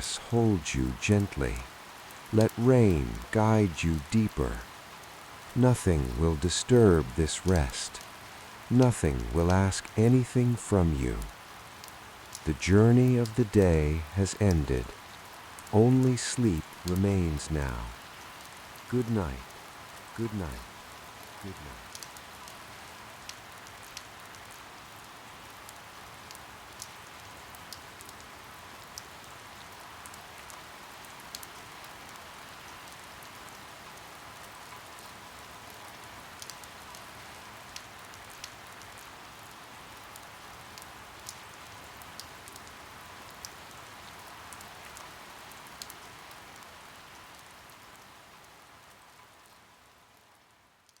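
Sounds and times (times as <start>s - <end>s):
steady rain hiss: 0.0s - 51.0s
raindrops landing on a surface: 1.4s - 12.4s, 13.2s - 15.7s, 16.5s - 51.0s.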